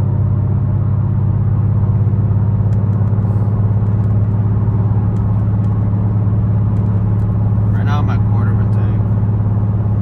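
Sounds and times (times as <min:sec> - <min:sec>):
car exhaust droning: 0:00.0 - 0:10.0.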